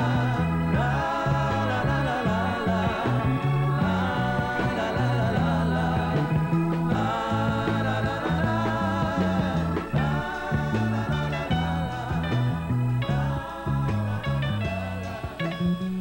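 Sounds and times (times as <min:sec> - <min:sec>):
band playing instrumental: 0:00.0 - 0:16.0
electric bass line: 0:00.0 - 0:16.0.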